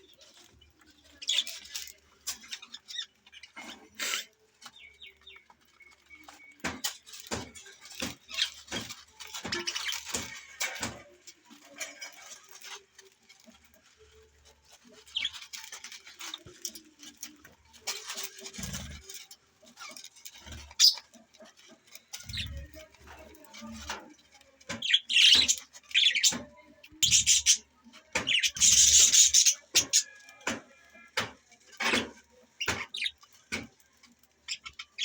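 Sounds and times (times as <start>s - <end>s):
budgies chirping and chattering: 0.0s - 11.0s, 14.4s - 30.2s, 31.7s - 35.0s.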